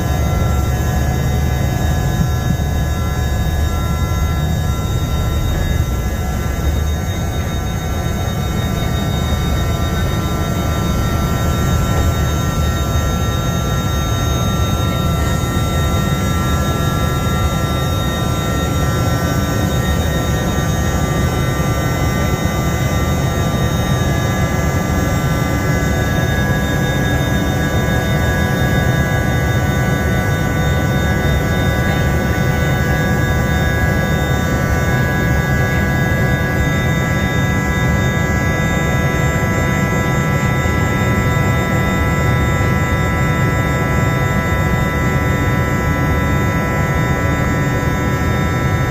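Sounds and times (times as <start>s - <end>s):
high steady whining tones: 0.0s - 48.9s
jet engine cabin rumble: 0.0s - 48.9s.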